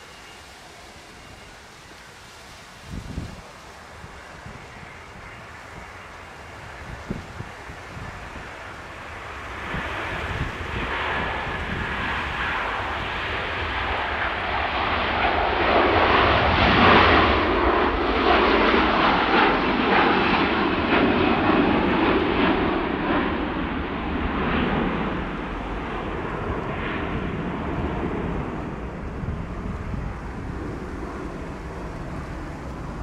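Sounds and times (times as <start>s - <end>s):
airliner engines rushing: 0.0s - 33.0s
steady low rumble: 0.0s - 33.0s.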